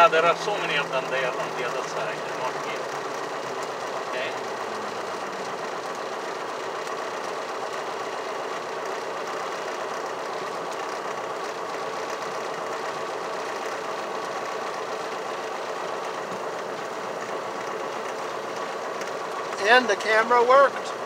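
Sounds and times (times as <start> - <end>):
airplane engine drone in cockpit: 0.0 - 21.0.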